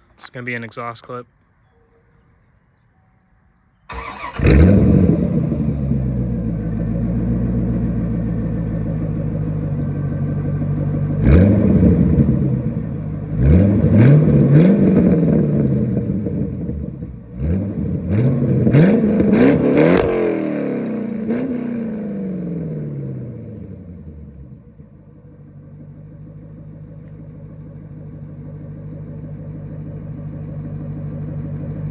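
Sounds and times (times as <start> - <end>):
car engine idling and revving: 3.9 - 31.9.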